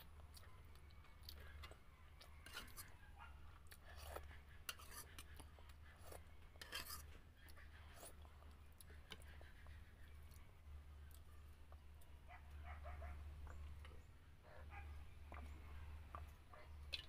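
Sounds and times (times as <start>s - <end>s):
chewing: 0.0s - 12.1s, 13.0s - 17.0s
low steady hum: 0.0s - 17.0s.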